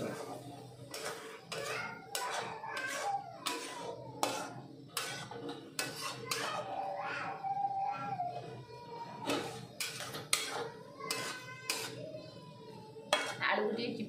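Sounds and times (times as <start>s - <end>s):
metal spatula scraping a pot: 0.0s - 7.4s, 8.0s - 13.5s.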